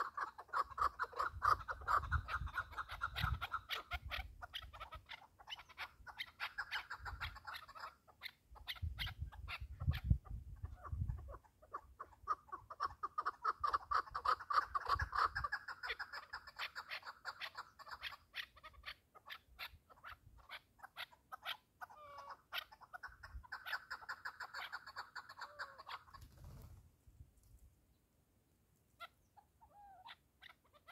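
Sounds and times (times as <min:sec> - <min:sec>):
partridge calling: 0:00.0 - 0:26.7, 0:28.9 - 0:30.9.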